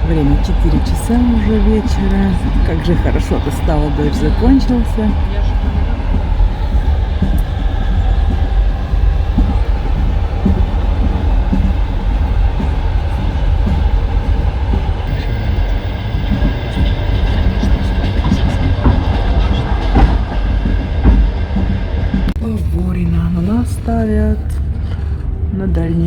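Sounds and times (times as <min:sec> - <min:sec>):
steady high whine: 0:00.0 - 0:26.0
train wheels rumbling on rails: 0:00.0 - 0:26.0.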